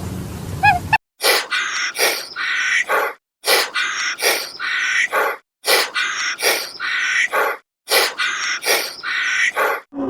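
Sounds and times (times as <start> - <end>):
animal calling in short calls: 0.7 - 9.8.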